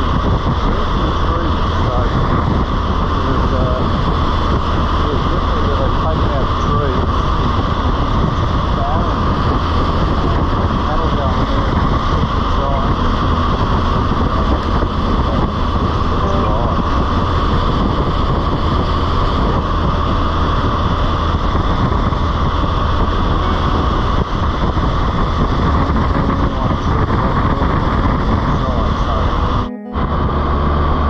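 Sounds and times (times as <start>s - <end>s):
engine and road rumble: 0.0s - 31.0s
wind rush over microphone: 0.0s - 31.0s.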